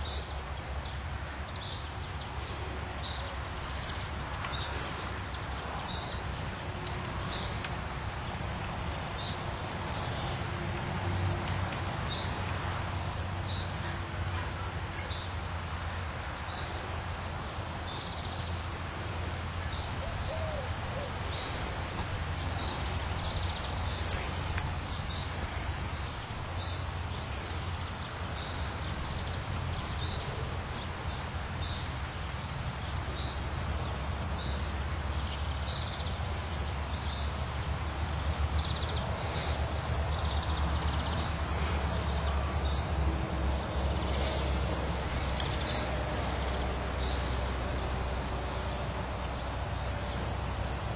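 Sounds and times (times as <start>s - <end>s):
low outdoor rumble: 0.0s - 50.9s.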